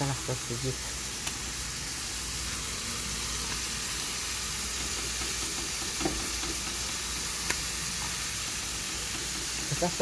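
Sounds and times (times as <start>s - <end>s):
food sizzling on a stove: 0.0s - 10.0s.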